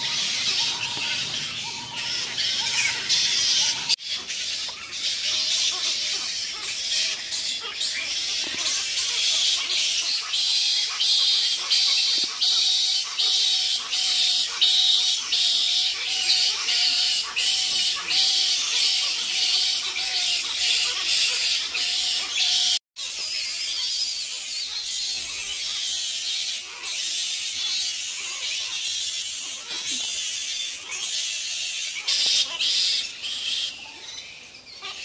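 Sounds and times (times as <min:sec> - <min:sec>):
fruit bats squealing and chattering: 0:00.0 - 0:35.0.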